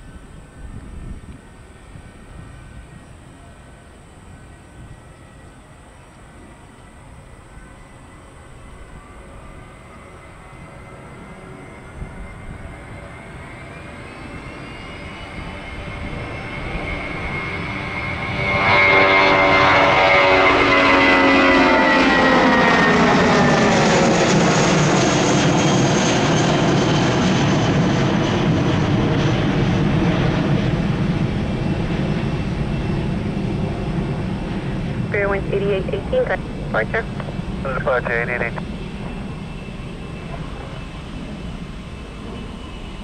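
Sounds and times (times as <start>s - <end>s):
jet airliner engines at takeoff: 0.0s - 43.0s.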